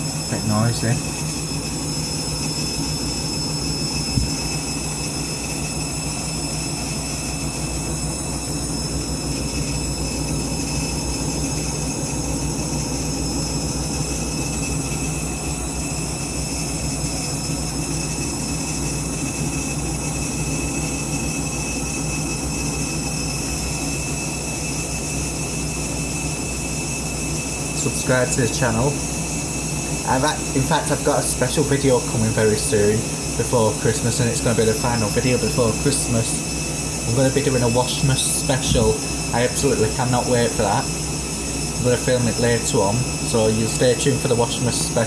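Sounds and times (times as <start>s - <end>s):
washing machine spinning: 0.0s - 45.0s.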